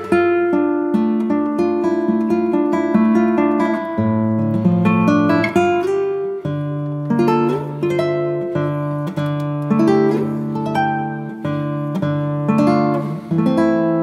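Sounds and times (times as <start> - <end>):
plucked guitar chords: 0.0 - 14.0.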